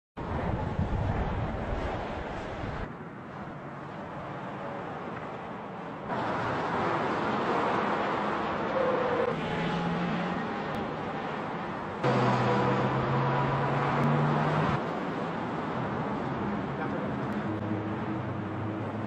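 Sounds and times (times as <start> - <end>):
rushing vehicle noise: 0.2 - 19.0.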